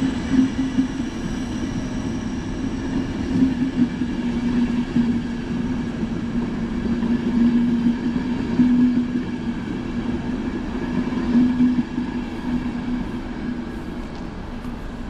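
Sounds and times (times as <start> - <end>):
train coaches rolling past: 0.0 - 15.0.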